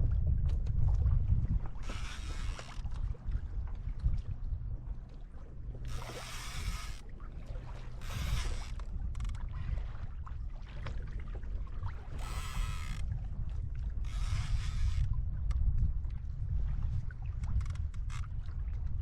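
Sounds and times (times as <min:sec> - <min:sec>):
water splashing around kayak: 0:00.0 - 0:19.0
wind rumble on microphone: 0:00.0 - 0:19.0.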